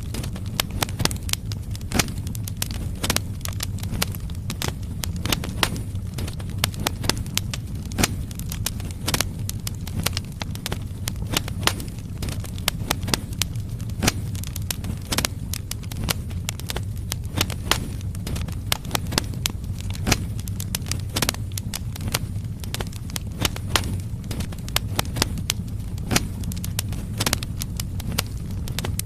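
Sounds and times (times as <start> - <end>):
fire crackling and popping: 0.0 - 29.0
low rumble of fire: 0.0 - 29.0.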